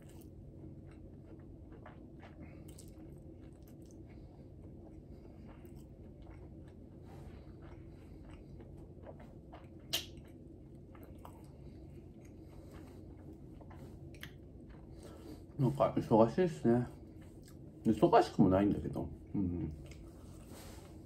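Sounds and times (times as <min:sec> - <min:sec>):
person chewing: 0:00.0 - 0:15.8, 0:17.0 - 0:17.9, 0:19.5 - 0:21.0.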